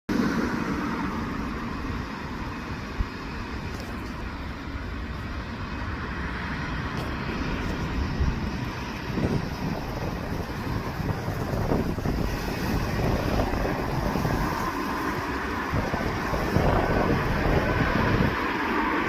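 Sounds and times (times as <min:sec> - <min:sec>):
jet engines running: 0:00.1 - 0:19.0
wind buffeting microphone: 0:00.1 - 0:19.0.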